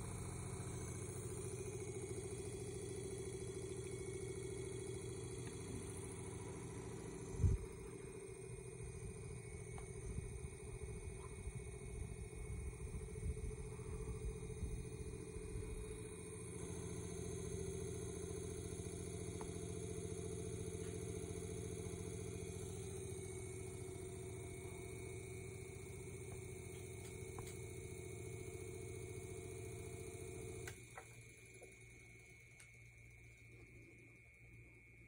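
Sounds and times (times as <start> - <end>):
electric fan motor hum and whir: 0.0 - 35.0.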